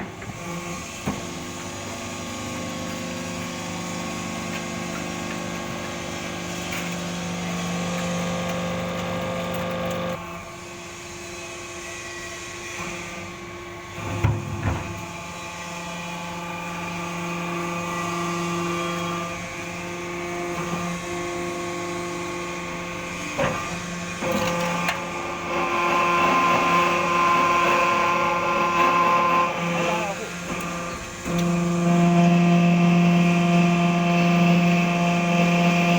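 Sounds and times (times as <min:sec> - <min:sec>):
baler motor hum and whine: 0:00.0 - 0:10.5, 0:13.1 - 0:35.9.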